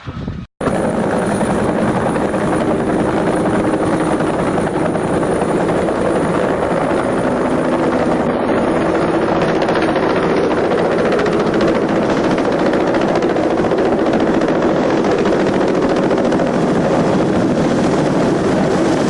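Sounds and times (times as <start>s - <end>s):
helicopter rotor and engine: 0.6s - 19.0s.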